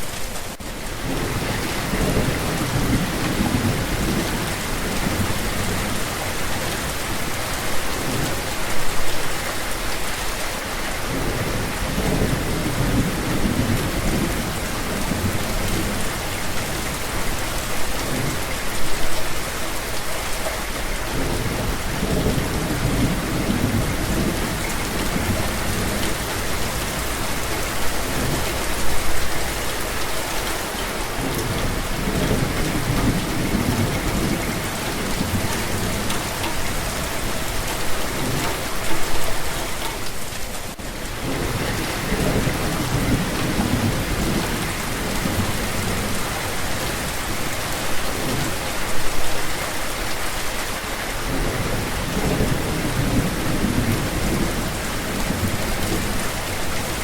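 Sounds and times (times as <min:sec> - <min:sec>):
rain falling: 0:00.0 - 0:57.0
thunder rumbling: 0:00.8 - 0:08.6, 0:11.1 - 0:18.5, 0:21.0 - 0:30.1, 0:30.9 - 0:39.6, 0:40.9 - 0:48.6, 0:51.2 - 0:57.0.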